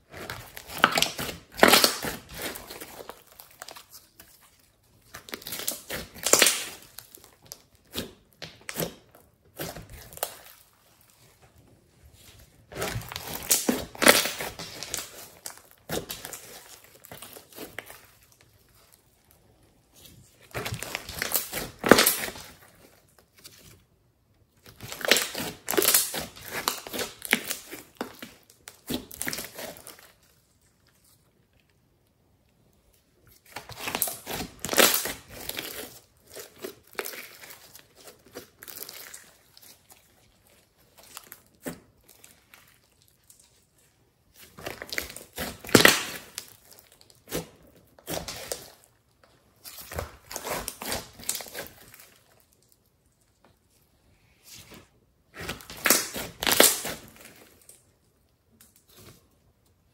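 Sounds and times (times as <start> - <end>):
slime squelching: 0.0 - 59.9.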